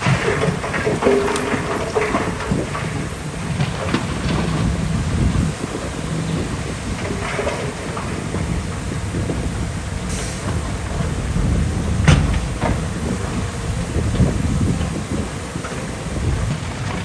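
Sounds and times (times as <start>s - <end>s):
diesel machinery rumbling: 0.0s - 17.0s
metallic knocks and clanks: 0.0s - 17.0s.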